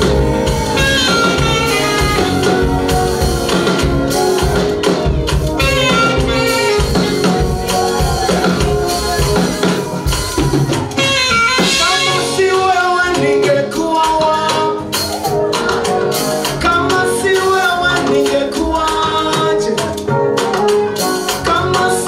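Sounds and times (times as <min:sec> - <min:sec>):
gospel band playing: 0:00.0 - 0:22.0.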